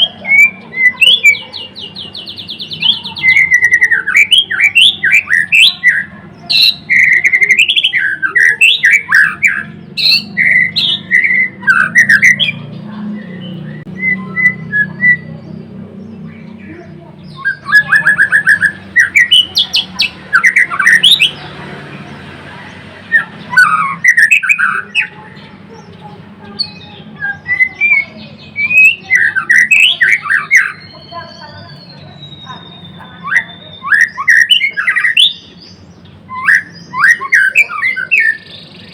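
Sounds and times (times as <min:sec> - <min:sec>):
bird singing whistled phrases: 0:00.0 - 0:15.6, 0:17.2 - 0:21.4, 0:23.1 - 0:25.2, 0:26.6 - 0:38.9.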